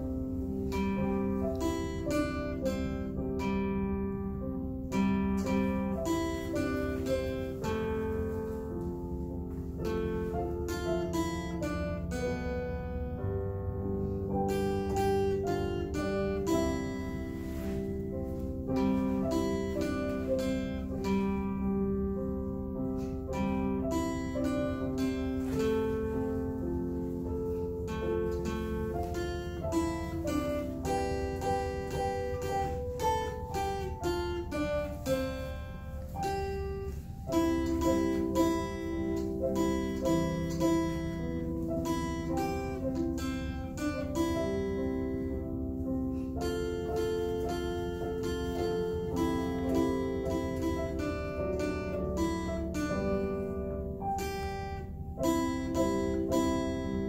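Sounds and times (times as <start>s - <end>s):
acoustic guitar: 0.0s - 57.0s
electronic keyboard: 0.0s - 57.0s.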